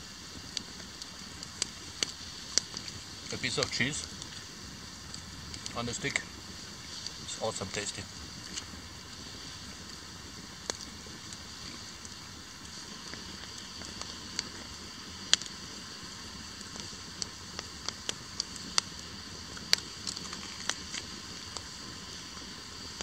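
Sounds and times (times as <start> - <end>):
campfire crackling and popping: 0.0 - 23.0
fire hiss: 0.0 - 23.0.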